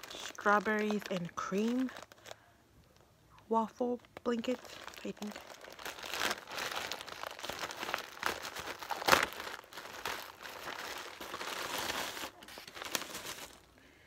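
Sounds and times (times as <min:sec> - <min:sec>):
packaging crinkling: 0:00.0 - 0:03.1, 0:03.9 - 0:13.8.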